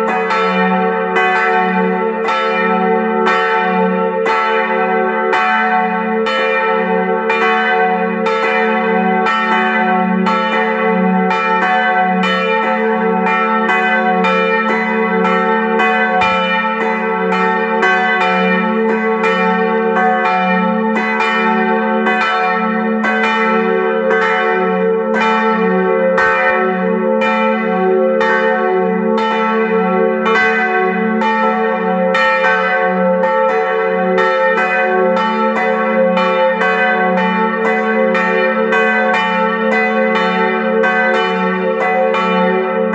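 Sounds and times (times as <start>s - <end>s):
church bells ringing in a peal: 0.0s - 42.9s.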